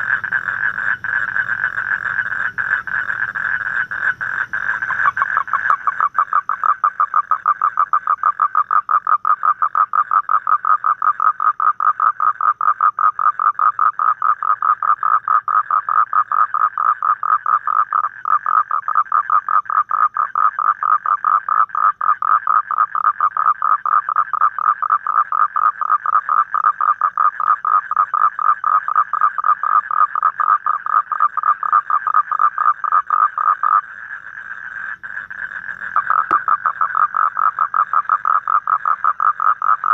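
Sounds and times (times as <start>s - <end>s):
toad trilling: 0.0s - 39.9s.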